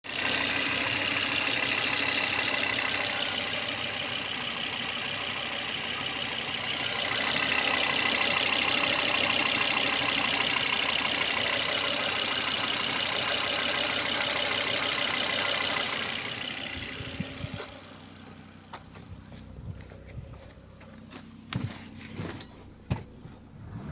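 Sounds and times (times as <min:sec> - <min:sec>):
car engine running: 0:00.0 - 0:23.9.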